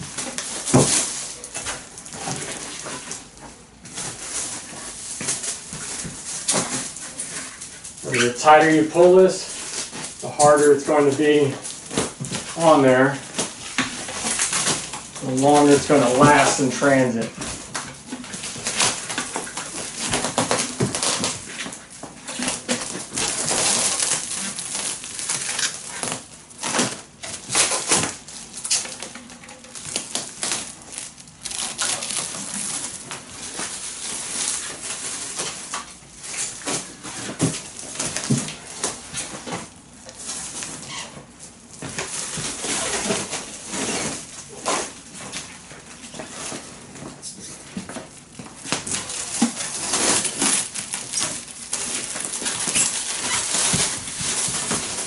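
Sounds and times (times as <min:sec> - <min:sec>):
stretch wrap crackling: 0:00.0 - 0:46.0, 0:48.5 - 0:55.0.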